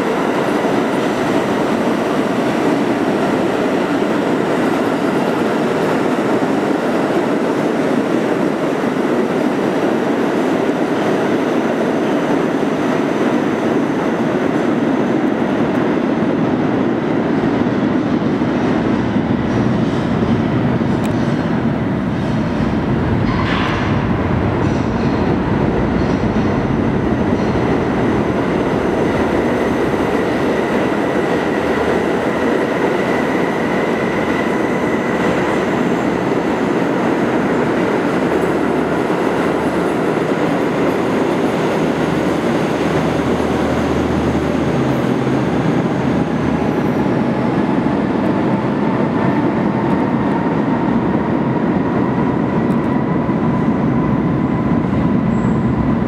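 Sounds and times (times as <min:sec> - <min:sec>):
subway train rumbling: 0:00.0 - 0:56.0.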